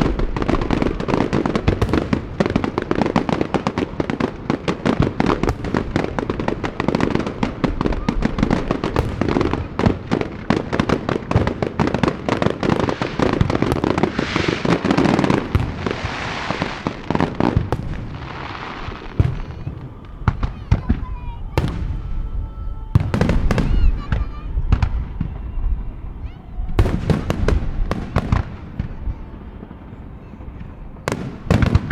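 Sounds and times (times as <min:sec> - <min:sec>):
fireworks bangs: 0:00.0 - 0:31.9
hissing crackle of fireworks: 0:00.0 - 0:31.9.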